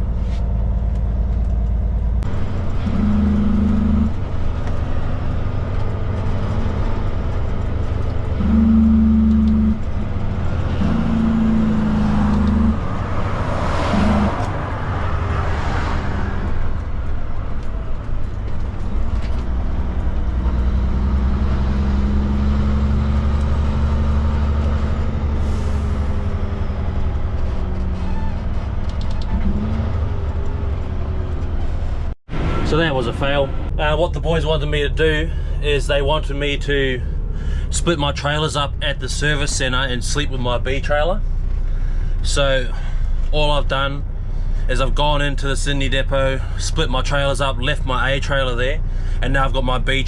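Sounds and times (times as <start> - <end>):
truck diesel engine running: 0.0 - 50.0.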